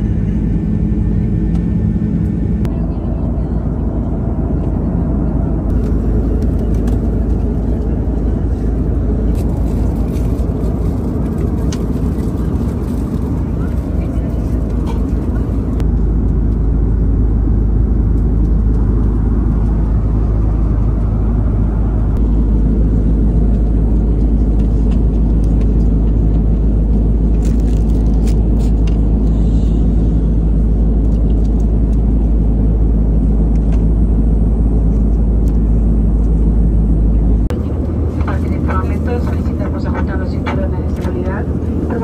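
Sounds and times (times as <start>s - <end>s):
airliner cabin rumble: 0.0s - 42.0s.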